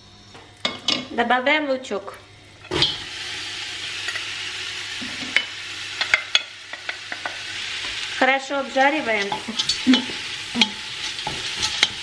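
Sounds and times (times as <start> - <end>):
onions sizzling in butter: 0.2 - 12.0.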